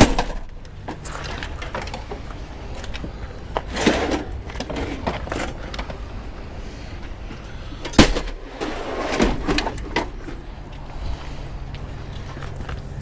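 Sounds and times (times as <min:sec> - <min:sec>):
loud scraping rush: 0:01.1 - 0:13.0.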